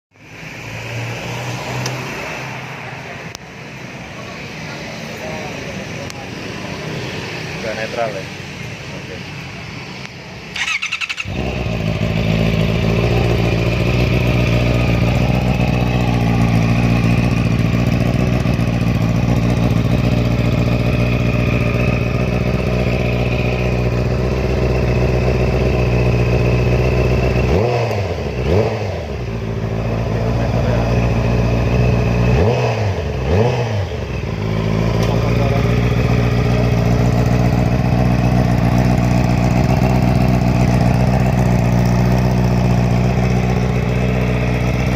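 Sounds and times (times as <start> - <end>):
motorcycle engine idling and revving: 0.1 - 44.9.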